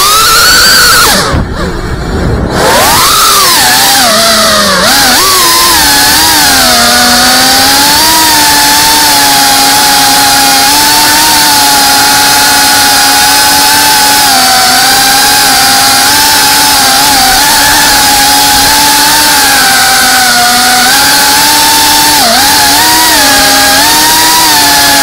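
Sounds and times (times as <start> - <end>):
drone motors and propellers whining: 0.0 - 25.0.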